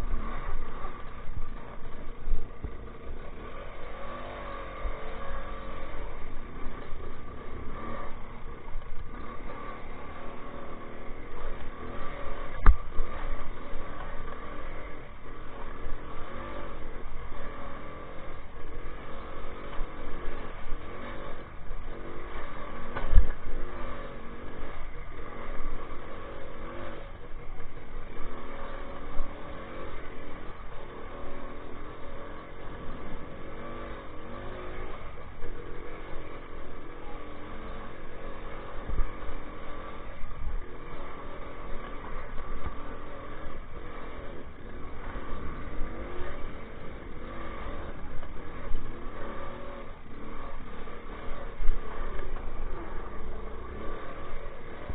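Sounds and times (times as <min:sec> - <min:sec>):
motorcycle two-stroke engine running: 0:00.0 - 0:54.9.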